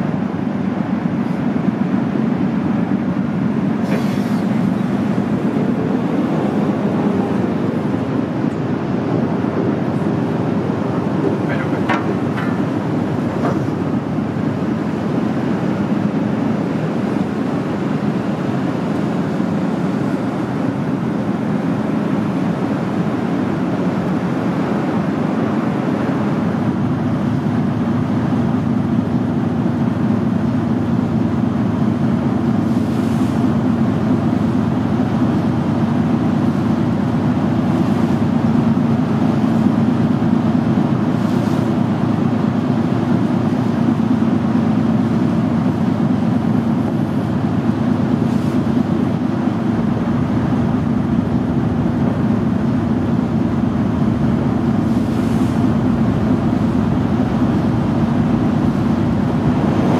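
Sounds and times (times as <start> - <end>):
ship engine drone: 0.0 - 59.9
propeller wash churning: 2.2 - 24.2, 32.6 - 59.9.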